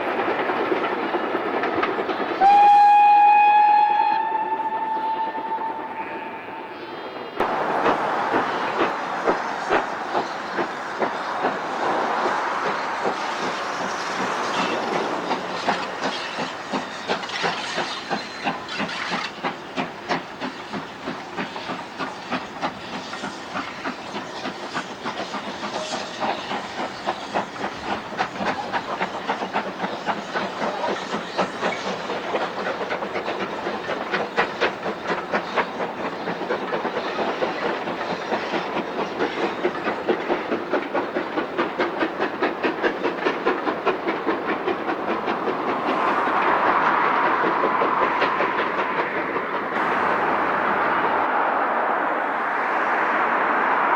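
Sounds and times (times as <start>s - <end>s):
steam locomotive exhaust beats: 0.0s - 53.9s
hiss of steam: 1.0s - 53.9s.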